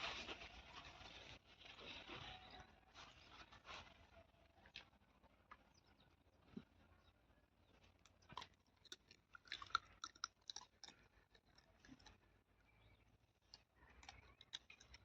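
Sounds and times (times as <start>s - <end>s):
faint chewing and crunching: 0.0s - 15.0s.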